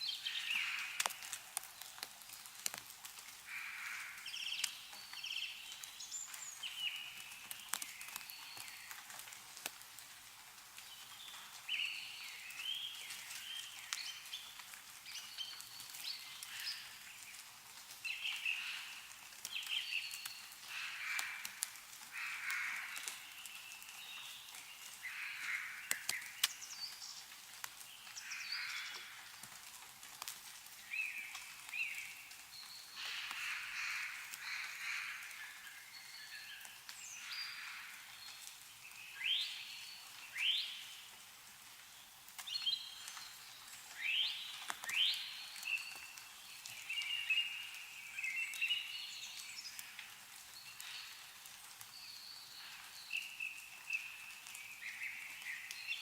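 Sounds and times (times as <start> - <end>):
songbirds chirping: 0.0 - 56.0
water dripping from trees: 0.0 - 56.0.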